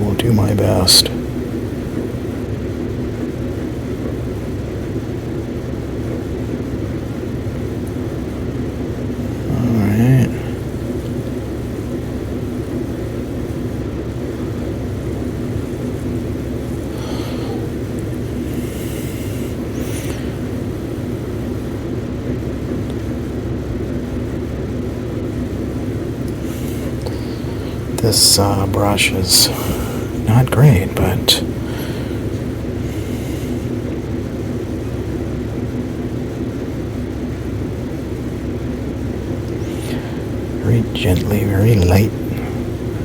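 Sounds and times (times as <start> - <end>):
machinery hum and rumble: 0.0 - 43.0.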